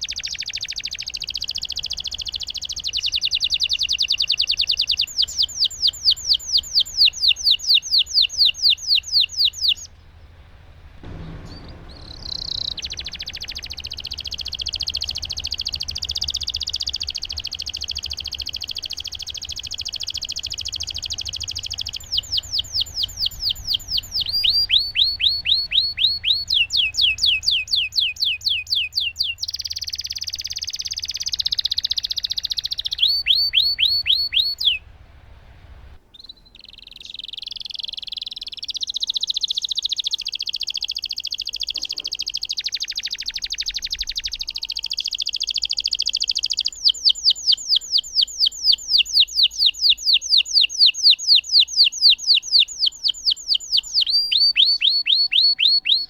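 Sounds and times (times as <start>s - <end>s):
canary singing: 0.0s - 10.2s, 11.0s - 35.0s, 36.0s - 56.0s.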